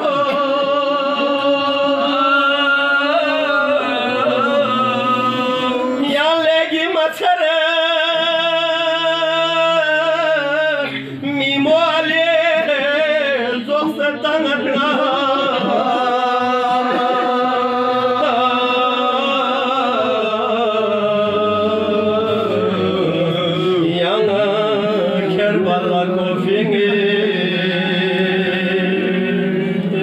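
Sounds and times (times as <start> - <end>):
man chanting unaccompanied: 0.0 - 30.0.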